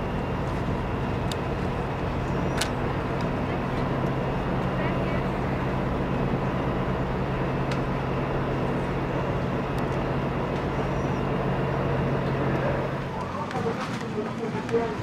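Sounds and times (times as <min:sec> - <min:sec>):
bus engine idling: 0:00.0 - 0:15.0
traffic noise: 0:00.0 - 0:15.0.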